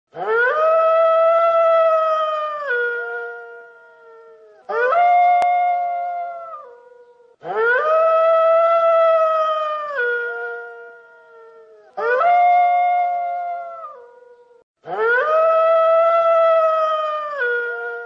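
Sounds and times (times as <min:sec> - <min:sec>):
wolf howling: 0:00.2 - 0:18.0.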